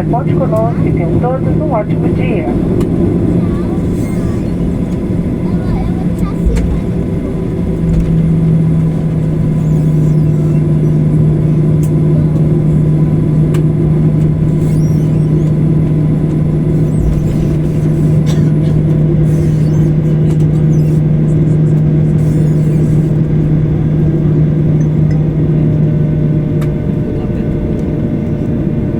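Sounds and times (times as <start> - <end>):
aircraft cabin drone: 0.0 - 28.9.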